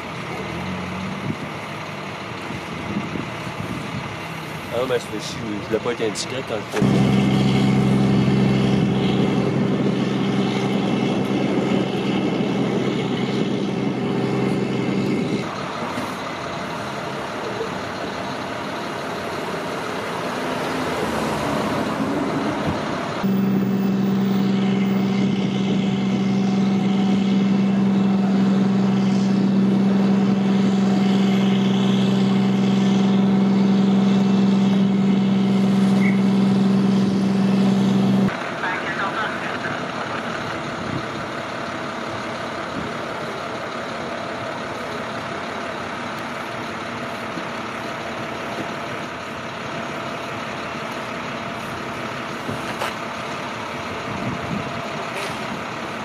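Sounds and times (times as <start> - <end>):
rushing traffic noise: 0.0 - 56.0
vehicle engine idling: 0.0 - 56.0.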